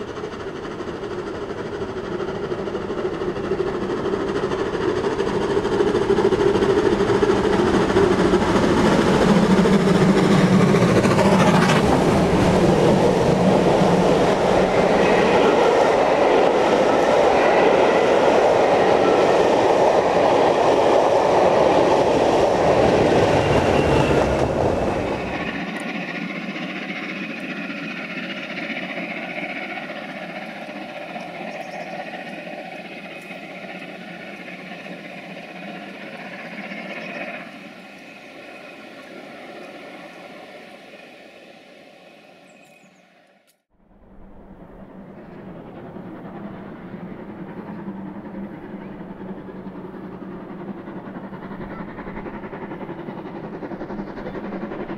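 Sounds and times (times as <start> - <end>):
train wheels clickety-clack: 0.0 - 40.4, 44.9 - 54.9
diesel locomotive running: 0.0 - 54.9
steam locomotive passing: 0.0 - 54.9.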